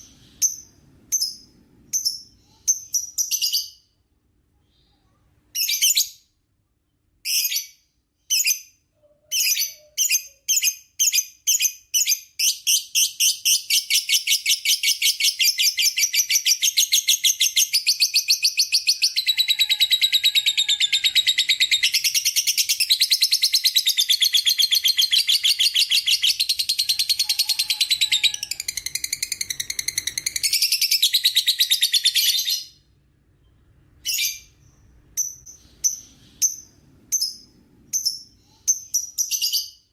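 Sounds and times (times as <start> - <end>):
lovebird chirping and trilling: 0.0 - 4.0, 5.5 - 6.3, 7.2 - 32.8, 33.4 - 39.9.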